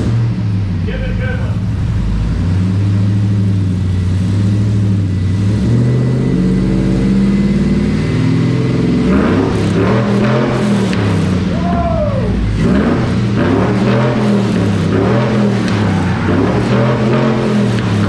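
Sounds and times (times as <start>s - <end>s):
deep truck exhaust note: 0.0s - 18.0s.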